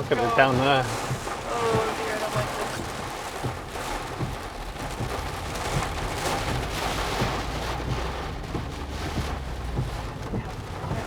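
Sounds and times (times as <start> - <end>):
engine and road hum: 0.0 - 11.0
heavy rain on a car: 0.0 - 11.0.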